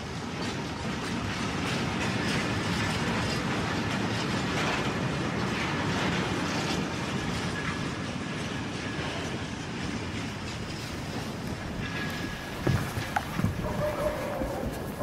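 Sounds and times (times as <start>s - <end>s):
rail vehicle rumbling: 0.0s - 15.0s
wheels clattering on rails: 0.0s - 15.0s.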